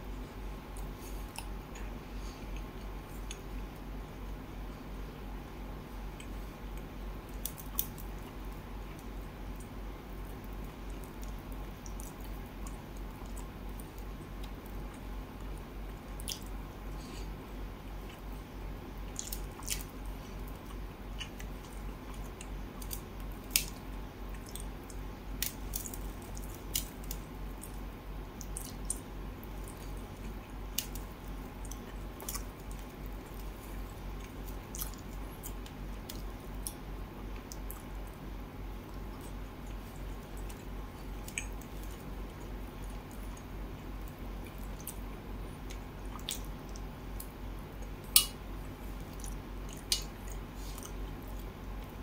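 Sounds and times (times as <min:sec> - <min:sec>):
steady low hum: 0:00.0 - 0:52.0
wet squishes of eating: 0:05.9 - 0:52.0.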